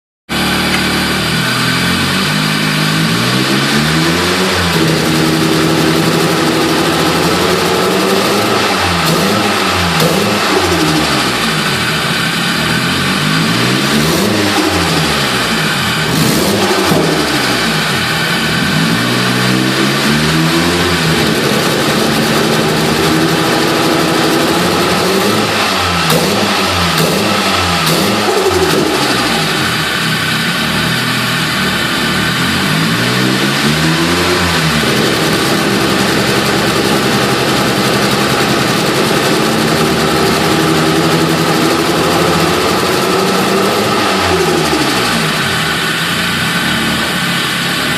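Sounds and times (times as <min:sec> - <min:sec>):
engine revving and misfiring: 0:00.3 - 0:47.9.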